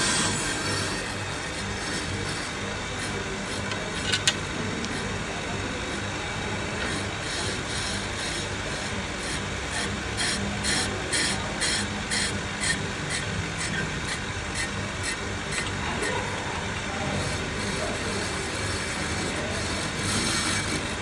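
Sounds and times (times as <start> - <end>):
cutting bit rasping on disc: 0.0 - 5.2, 5.9 - 21.0
lathe motor humming: 0.0 - 21.0.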